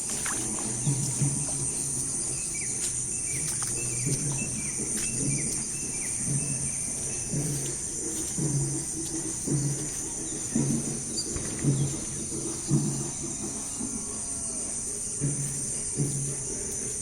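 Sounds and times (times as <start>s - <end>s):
crickets and insects droning: 0.0s - 17.0s.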